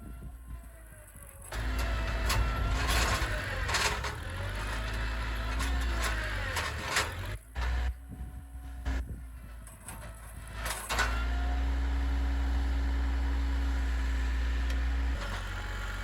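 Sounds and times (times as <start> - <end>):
tractor engine working hard: 0.0 - 16.0.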